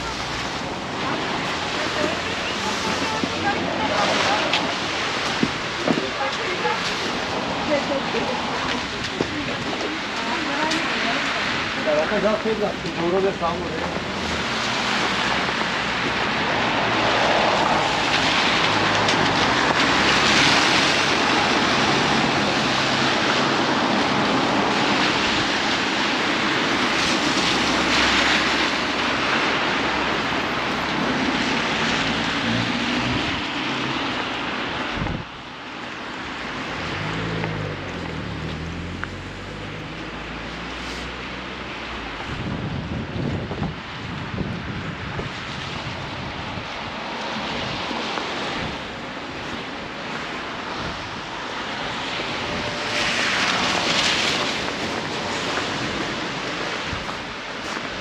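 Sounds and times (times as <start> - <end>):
blizzard wind buffeting microphone: 0.0 - 12.2, 13.9 - 40.6, 41.5 - 58.0.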